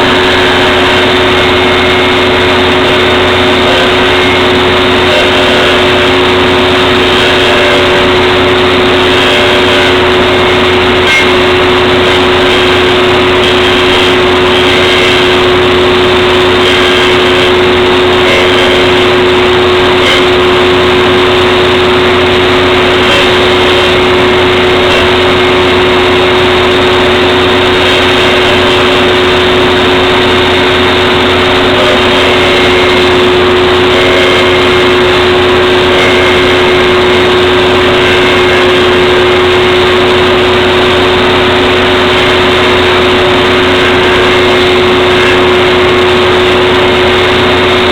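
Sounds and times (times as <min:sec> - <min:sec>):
table saw motor humming: 0:00.0 - 0:47.9.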